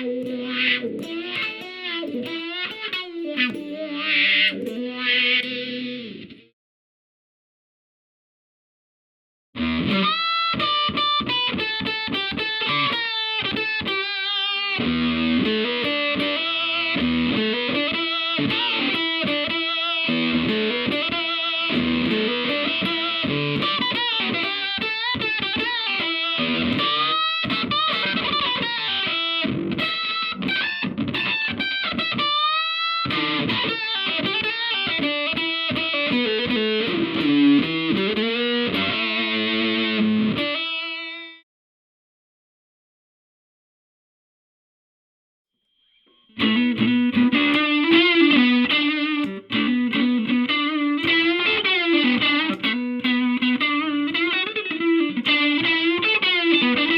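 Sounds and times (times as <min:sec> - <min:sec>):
electric guitar lead with bends: 0:00.0 - 0:06.5, 0:09.6 - 0:41.4, 0:46.3 - 0:56.9.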